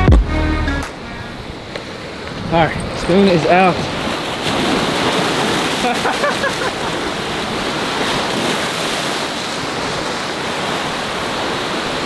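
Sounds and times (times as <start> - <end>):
surf washing over rocks: 1.0 - 12.0.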